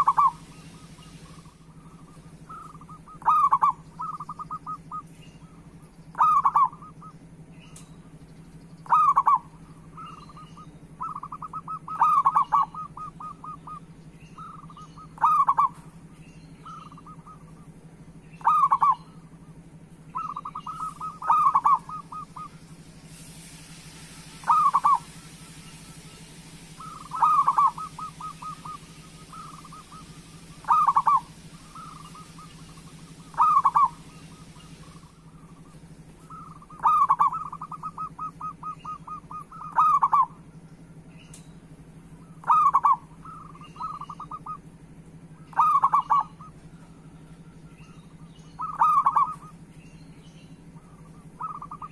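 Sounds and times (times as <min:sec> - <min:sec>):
dove cooing: 0:00.0 - 0:07.4, 0:08.8 - 0:22.9, 0:24.4 - 0:40.6, 0:42.0 - 0:49.7, 0:50.7 - 0:51.9
steady low hum: 0:00.0 - 0:51.9.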